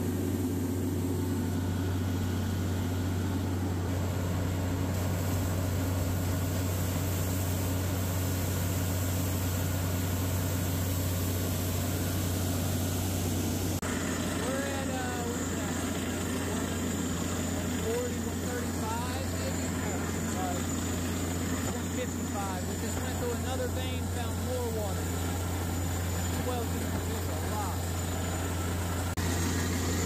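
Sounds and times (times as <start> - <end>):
drilling rig engine drone: 0.0 - 30.0.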